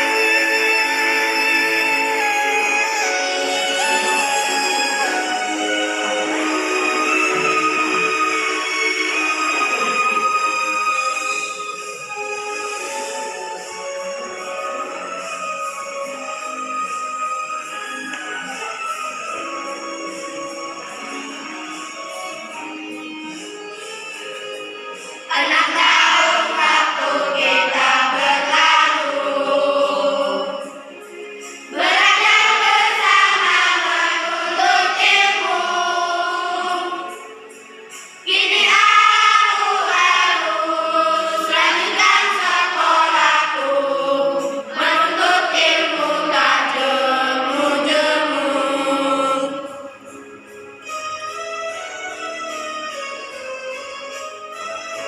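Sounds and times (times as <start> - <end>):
children's choir singing: 0.0 - 50.4
instrumental accompaniment: 0.0 - 55.0.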